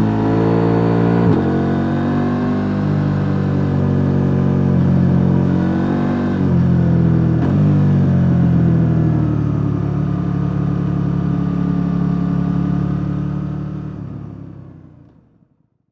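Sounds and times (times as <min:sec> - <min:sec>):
motorcycle engine while riding: 0:00.0 - 0:15.0.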